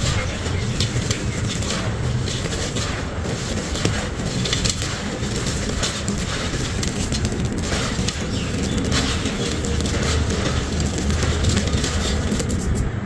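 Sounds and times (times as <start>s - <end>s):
grit crunching in clay pot: 0.0s - 13.0s.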